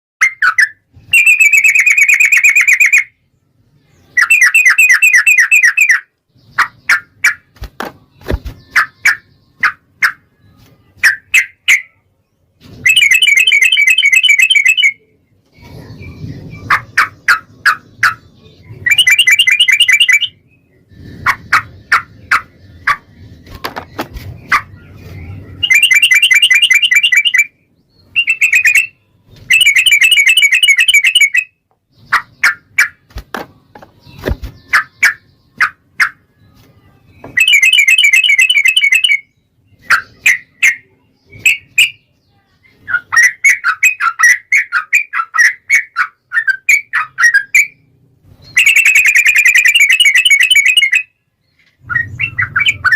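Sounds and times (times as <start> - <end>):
bulbul singing: 0.2 - 12.1, 12.8 - 15.2, 15.9 - 52.9.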